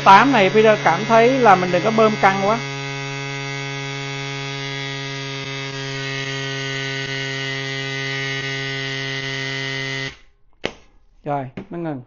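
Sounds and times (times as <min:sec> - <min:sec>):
mini tyre pump buzzing: 0:00.0 - 0:10.8.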